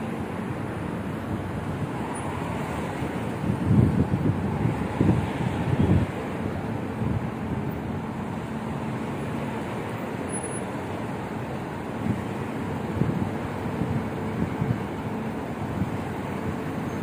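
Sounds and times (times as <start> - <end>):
bus idling and moving: 0.0 - 17.0
city traffic: 0.0 - 17.0.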